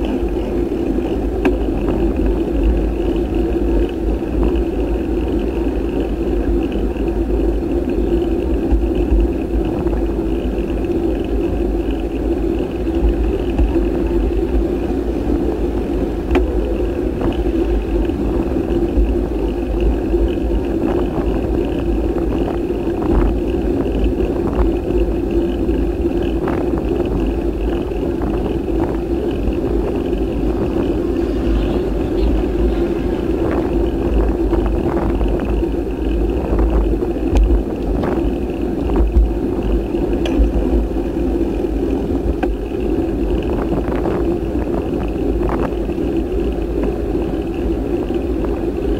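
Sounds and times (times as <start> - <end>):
steady rumble: 0.0 - 48.9
wind buffeting microphone: 0.0 - 48.9.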